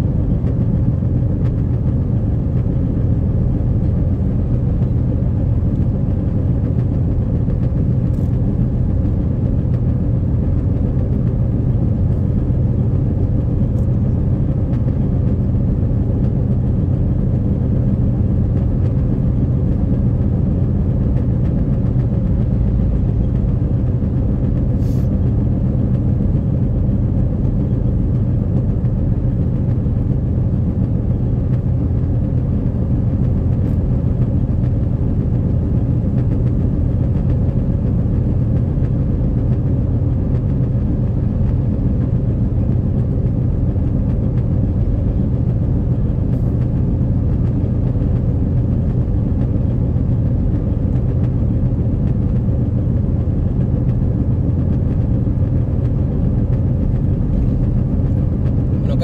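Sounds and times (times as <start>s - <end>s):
car engine and tyres on wet road: 0.0s - 59.0s.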